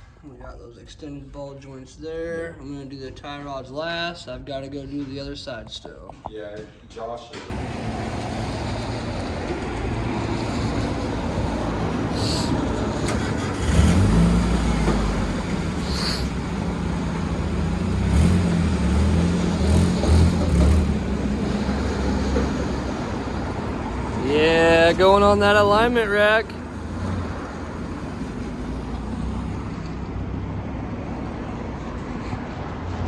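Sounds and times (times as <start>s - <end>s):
road and wind noise: 2.1s - 33.0s.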